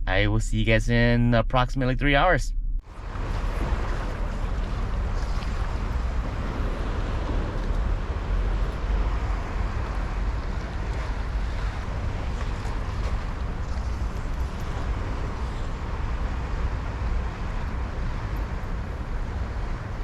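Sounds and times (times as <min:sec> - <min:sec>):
wind buffeting microphone: 0:02.8 - 0:20.0.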